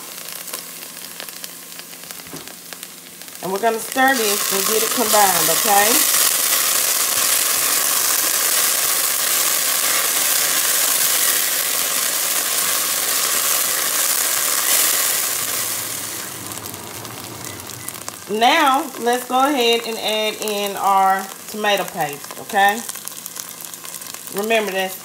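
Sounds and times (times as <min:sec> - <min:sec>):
onions and garlic sizzling in oil: 0:00.0 - 0:25.0.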